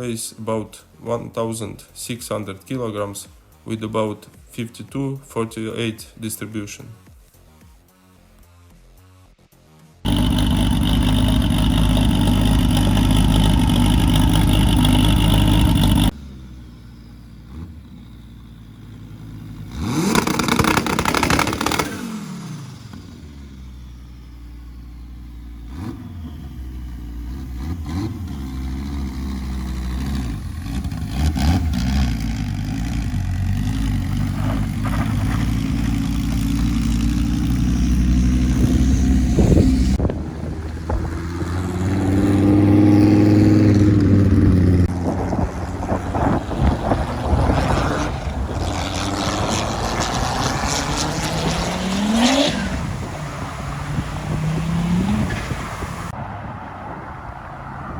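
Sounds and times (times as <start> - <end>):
car engine revving: 10.0 - 57.9.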